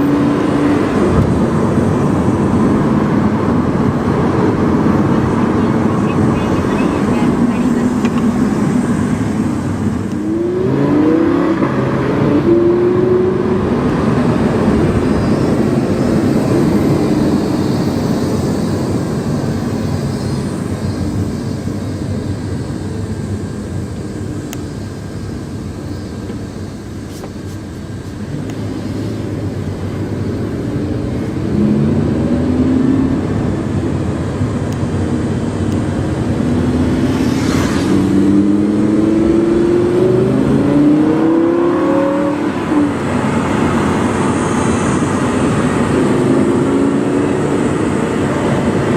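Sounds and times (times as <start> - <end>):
car engine revving inside car: 0.0 - 48.9.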